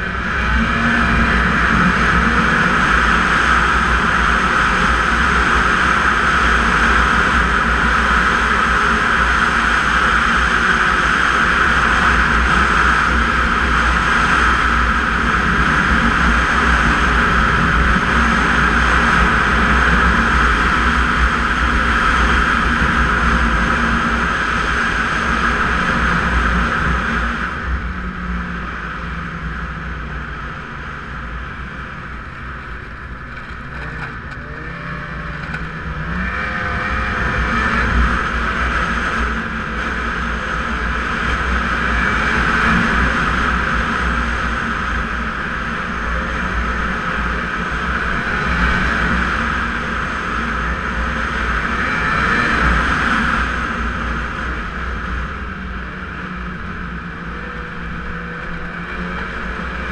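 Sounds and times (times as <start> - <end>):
snowmobile engine and track: 0.0 - 59.9.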